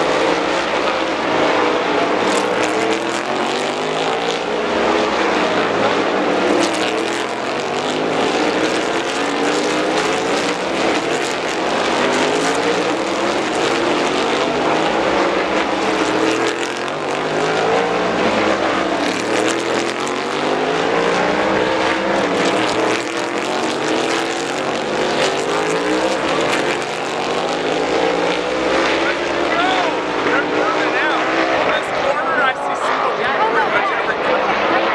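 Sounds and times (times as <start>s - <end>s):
race car engines accelerating: 0.0s - 34.9s.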